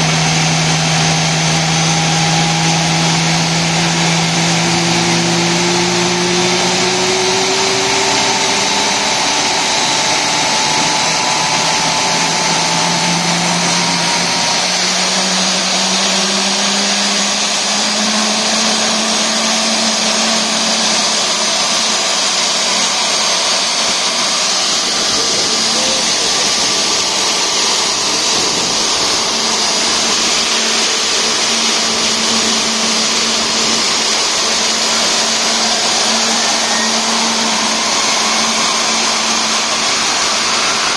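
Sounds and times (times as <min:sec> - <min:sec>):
jet engine whining and roaring: 0:00.0 - 0:40.9.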